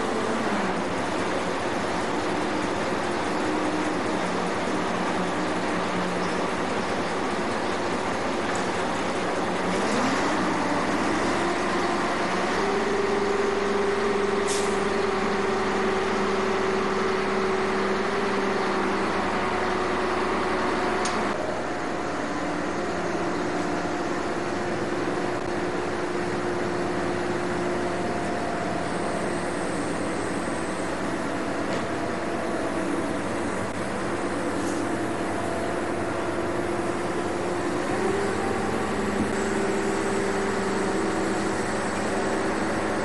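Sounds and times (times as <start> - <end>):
engine humming: 0.0 - 43.0.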